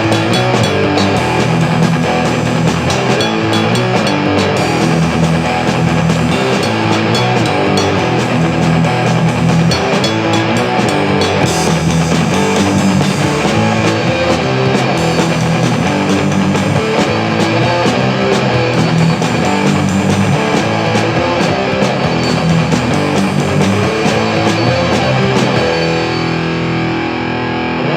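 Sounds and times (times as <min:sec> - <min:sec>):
drums: 0:00.0 - 0:27.9
electric guitar: 0:00.0 - 0:27.9
keyboards: 0:00.0 - 0:27.9.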